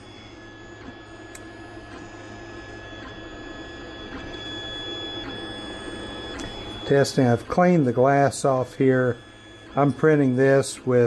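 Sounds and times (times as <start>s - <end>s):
stepper motor whine: 0.0s - 11.0s.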